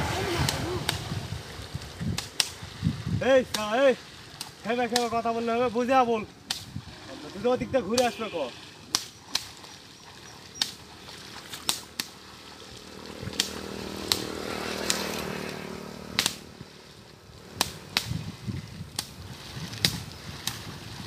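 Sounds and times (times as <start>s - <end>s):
sticks slapping shallow water: 0.0s - 21.0s.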